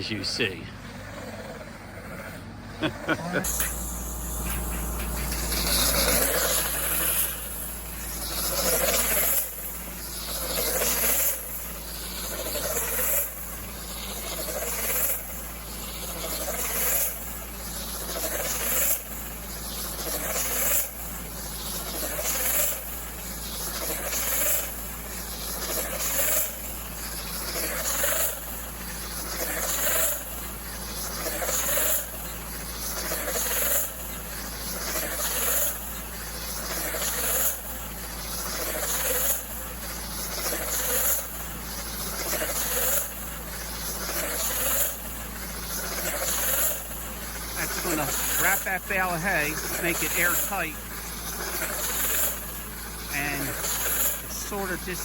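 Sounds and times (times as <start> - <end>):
bale wrapper machine: 0.0 - 55.0.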